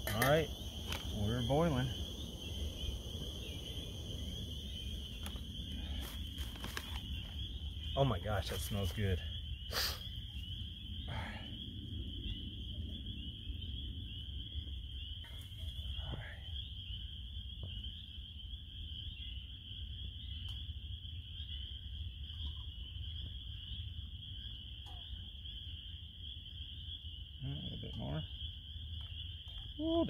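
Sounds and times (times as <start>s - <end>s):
chorus of small calling animals: 0.0s - 6.2s, 7.1s - 17.1s, 21.4s - 30.0s.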